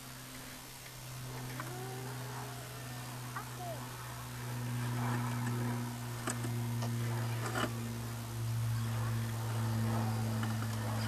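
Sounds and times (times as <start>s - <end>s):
electric motor humming: 0.0s - 11.0s.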